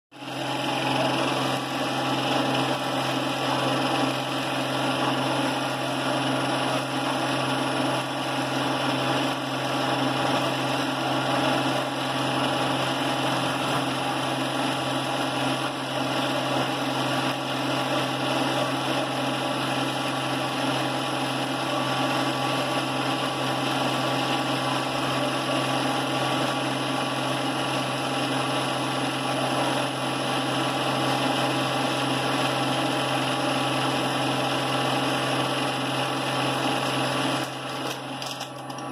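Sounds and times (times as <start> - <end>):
film projector running: 0.1 - 38.9.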